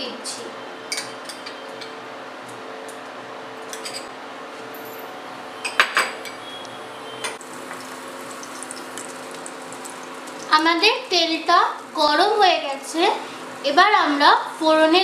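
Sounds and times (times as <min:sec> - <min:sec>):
induction cooktop hum: 0:00.0 - 0:15.0.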